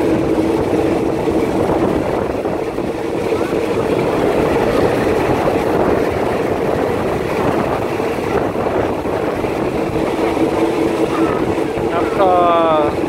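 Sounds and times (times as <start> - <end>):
constant low hum: 0.0 - 13.0
train rumbling along track: 0.0 - 13.0.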